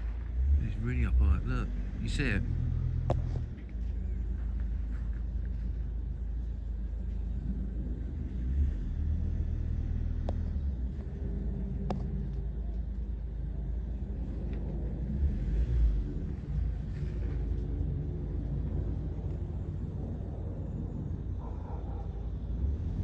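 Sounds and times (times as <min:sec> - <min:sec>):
distant jet airliner rumble: 0:00.0 - 0:23.0.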